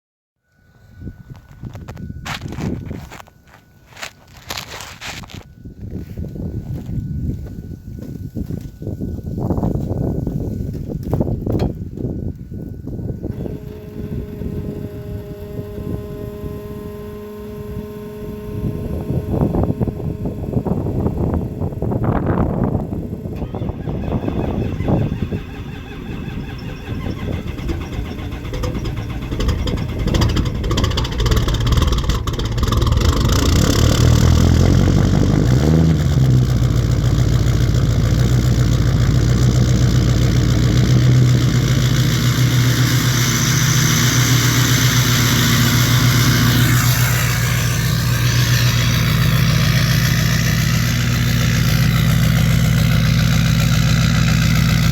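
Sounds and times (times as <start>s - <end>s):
diesel engine starting and idling: 9.2s - 54.9s.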